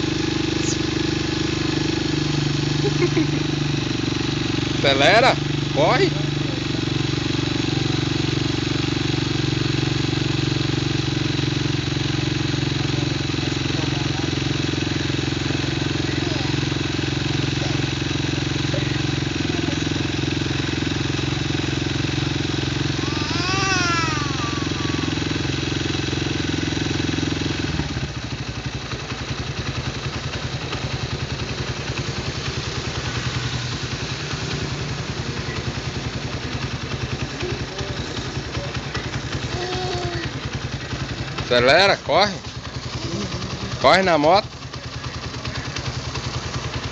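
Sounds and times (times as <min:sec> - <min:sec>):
small motorcycle engine: 0:00.0 - 0:46.9.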